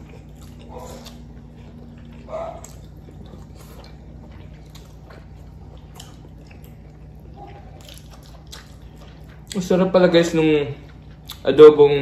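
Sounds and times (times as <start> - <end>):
soft chewing: 0.0 - 12.0
steady low hum: 0.0 - 12.0.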